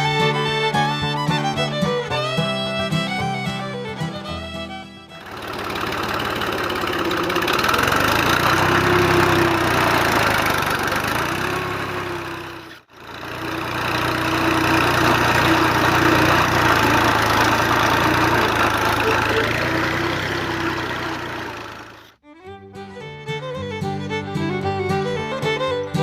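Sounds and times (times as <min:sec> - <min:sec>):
engine idling: 0:00.0 - 0:22.2.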